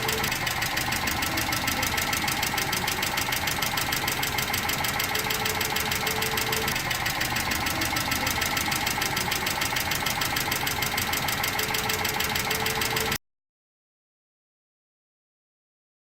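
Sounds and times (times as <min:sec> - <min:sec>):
car engine idling with ticking knock: 0:00.0 - 0:13.2.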